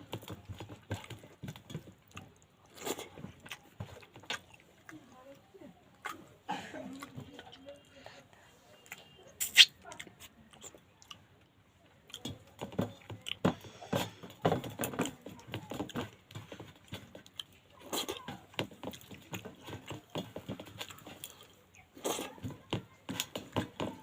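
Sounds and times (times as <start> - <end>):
chewing and lip-smacking: 0.0 - 14.2, 14.8 - 24.0.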